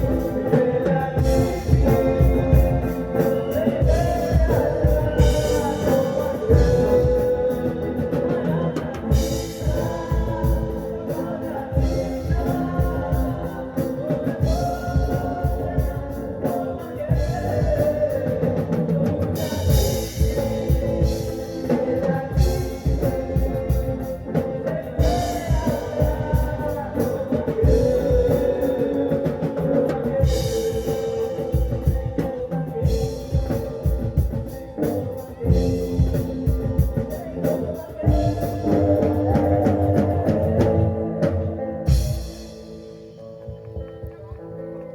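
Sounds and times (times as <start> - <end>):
person singing: 0.0 - 44.9
rock band playing live: 0.0 - 44.9.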